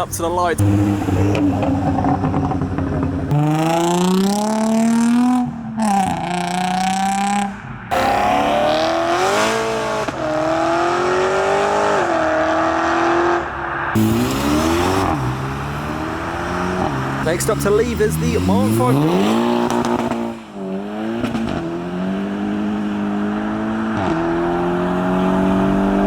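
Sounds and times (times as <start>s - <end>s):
car engines accelerating: 0.0s - 26.0s.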